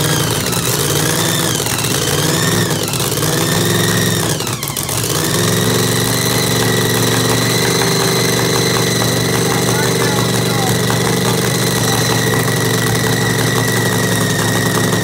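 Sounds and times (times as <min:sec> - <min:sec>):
boat engine loping idle: 0:00.0 - 0:15.0
high blower whine: 0:00.0 - 0:15.0.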